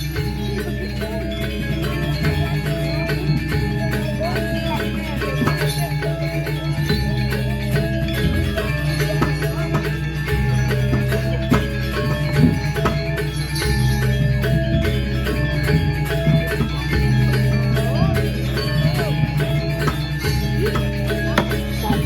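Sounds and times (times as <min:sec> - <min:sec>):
gamelan music: 0:00.0 - 0:22.0.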